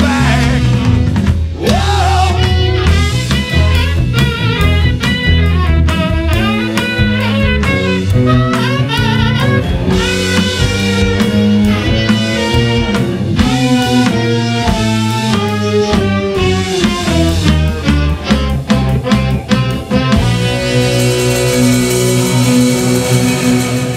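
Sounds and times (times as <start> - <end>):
drum kit: 0.0 - 23.9
electric bass line: 0.0 - 23.9.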